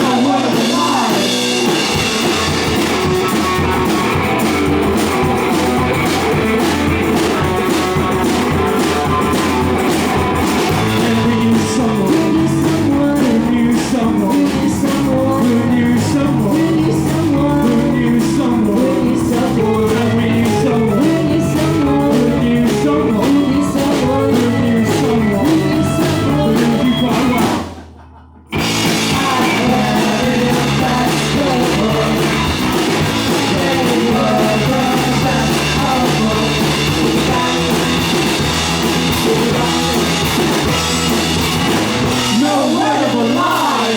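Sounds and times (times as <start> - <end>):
electric guitar: 0.0 - 27.8, 28.5 - 43.9
bass guitar: 0.0 - 43.9
drum kit: 0.0 - 43.9
person singing: 0.0 - 43.9.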